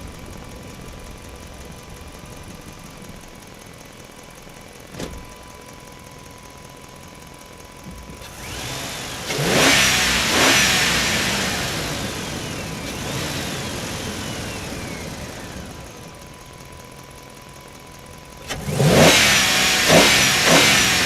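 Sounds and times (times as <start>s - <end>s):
truck engine echoing in garage: 0.0s - 21.0s.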